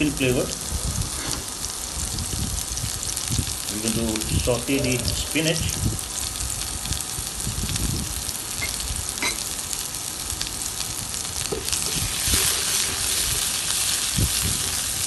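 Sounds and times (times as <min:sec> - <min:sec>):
onion sizzling in a frying pan: 0:00.0 - 0:15.0.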